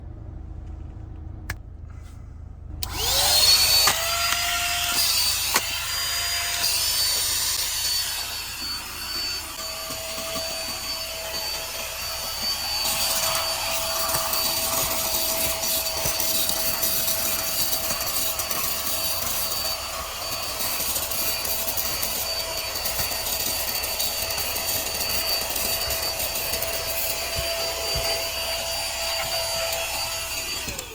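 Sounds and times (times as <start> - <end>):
handheld vacuum cleaner whining: 2.8 - 30.9.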